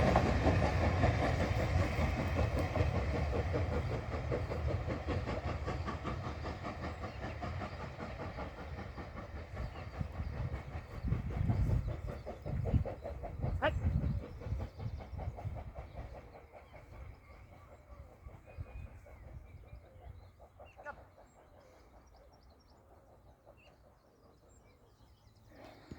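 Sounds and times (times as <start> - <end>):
faint birdsong: 0.0 - 25.9
steam train chuffing: 0.0 - 25.9.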